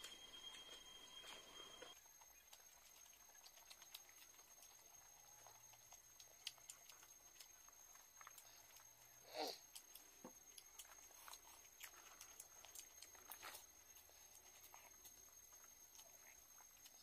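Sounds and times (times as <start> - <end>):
chewing and lip-smacking: 0.1 - 17.0.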